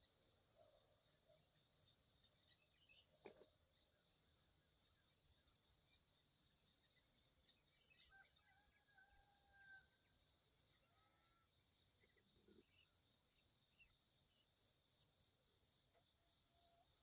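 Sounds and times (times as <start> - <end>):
faint high insect trill: 0.0 - 17.0.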